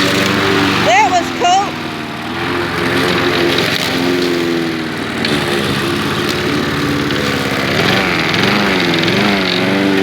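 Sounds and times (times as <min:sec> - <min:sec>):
lawn mower engine running: 0:00.0 - 0:10.0.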